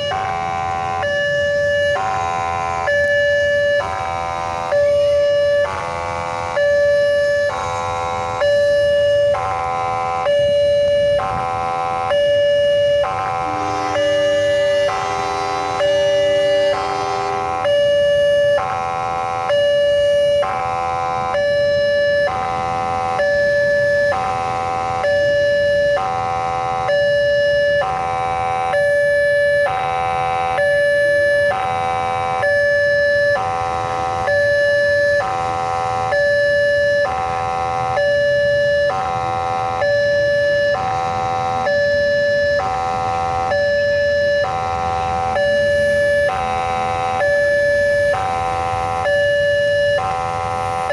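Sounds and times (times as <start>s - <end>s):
level crossing two-tone warning siren: 0.0s - 50.9s.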